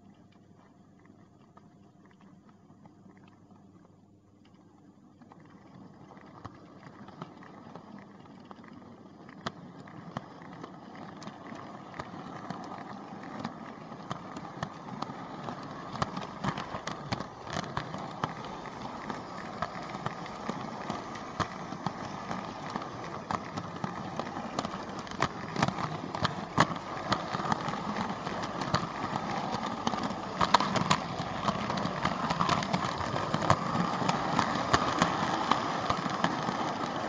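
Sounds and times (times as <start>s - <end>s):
sharp clicks at rail joints: 5.3s - 37.0s
model train wheels rumbling: 6.0s - 37.0s.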